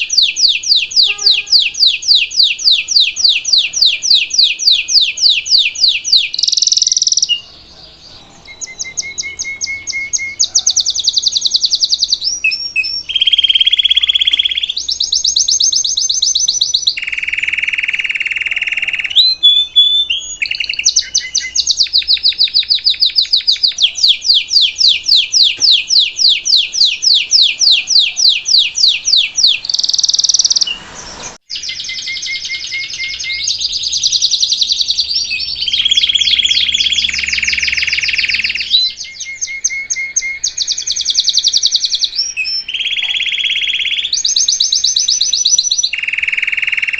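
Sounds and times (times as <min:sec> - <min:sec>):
canary singing rapid trills: 0:00.0 - 0:46.9.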